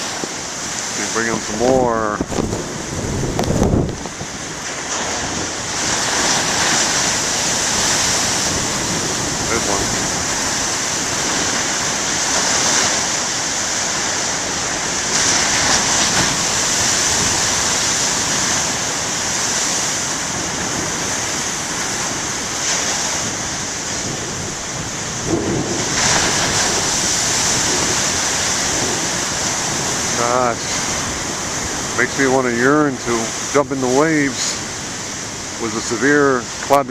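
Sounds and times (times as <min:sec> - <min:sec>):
ocean waves breaking: 0:00.0 - 0:36.9.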